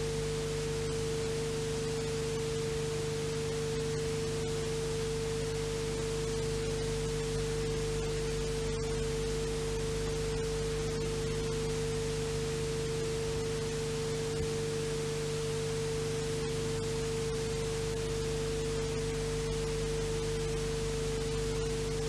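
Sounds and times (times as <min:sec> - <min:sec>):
constant mid-pitched hum: 0:00.0 - 0:22.0.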